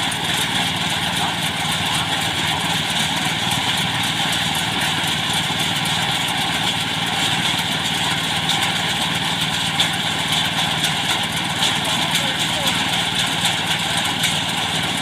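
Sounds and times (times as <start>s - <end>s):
threshing machine engine running: 0.0s - 15.0s.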